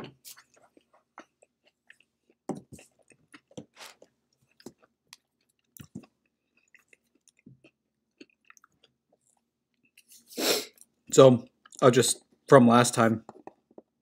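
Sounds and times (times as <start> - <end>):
person chewing food: 0.0 - 11.8, 13.3 - 14.0.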